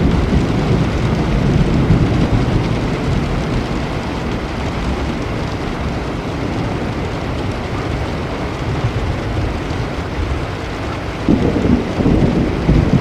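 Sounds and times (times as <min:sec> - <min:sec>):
heavy rain: 0:00.0 - 0:13.0
thunder rolling: 0:00.0 - 0:13.0.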